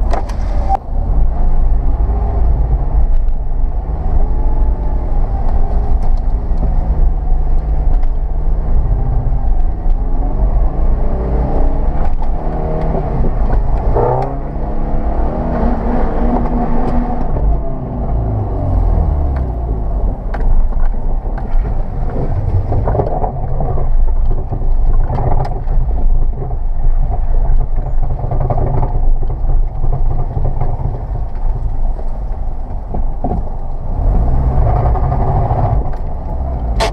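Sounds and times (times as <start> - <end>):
car engine revving under load: 0.0 - 36.9.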